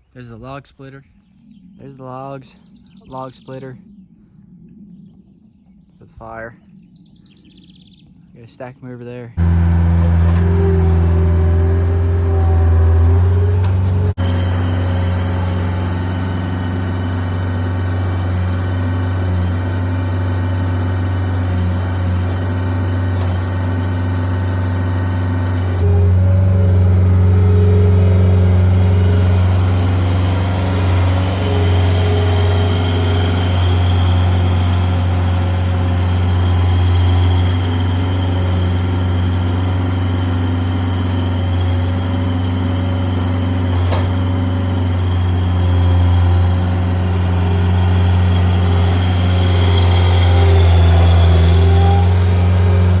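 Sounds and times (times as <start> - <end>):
log splitter engine humming: 9.4 - 53.0.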